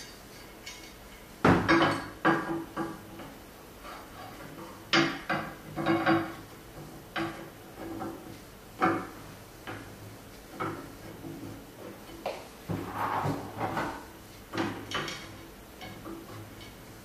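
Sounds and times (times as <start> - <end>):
metal parts knocking and clunking: 0.0 - 3.4, 4.2 - 8.2, 10.5 - 16.8.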